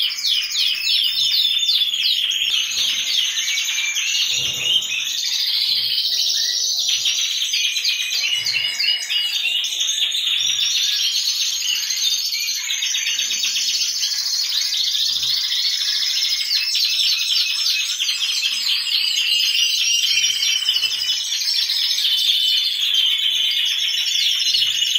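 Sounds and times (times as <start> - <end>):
canaries singing and chirping: 0.0 - 24.9.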